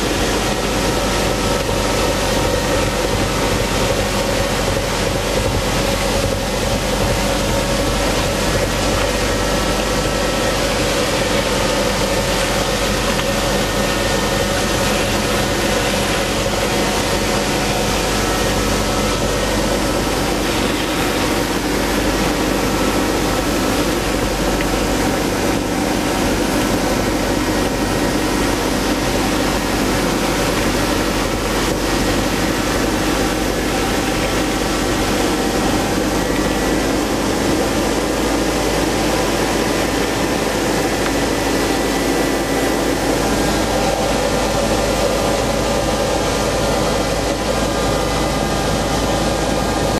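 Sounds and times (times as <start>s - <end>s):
ice edger motor droning: 0.0s - 49.9s.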